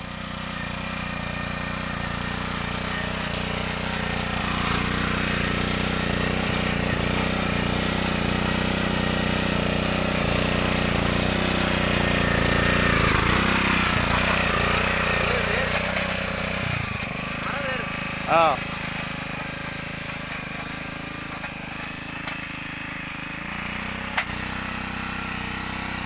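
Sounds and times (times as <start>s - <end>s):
small petrol engine running: 0.0s - 26.0s
tines digging through soil: 0.3s - 26.0s.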